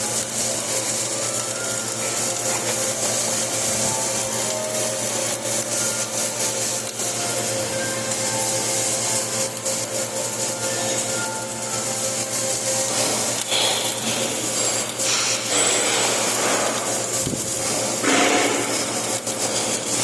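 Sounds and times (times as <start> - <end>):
crackling welding arc: 0.0 - 20.0
steady hum: 0.0 - 20.0.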